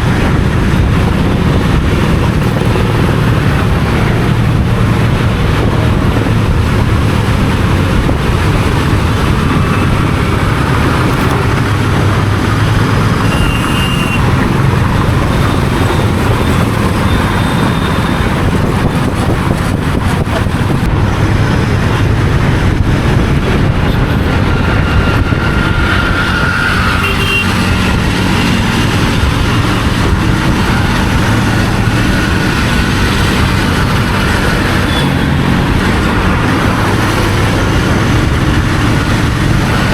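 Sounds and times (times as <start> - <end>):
motorcycle engine cruising: 0.0 - 39.9
rushing noise: 0.0 - 39.9.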